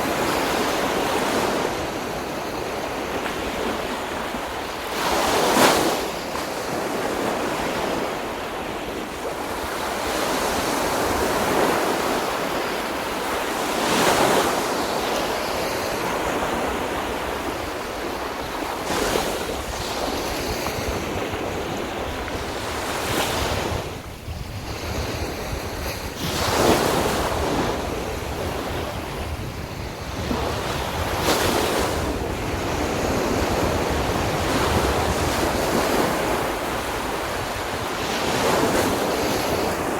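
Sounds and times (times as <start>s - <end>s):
sea waves breaking on beach: 0.0s - 39.9s
wind buffeting microphone: 0.0s - 39.9s.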